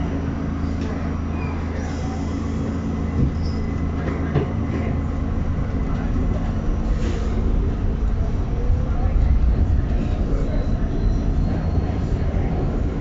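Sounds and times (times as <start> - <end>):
subway train motor hum: 0.0 - 13.0.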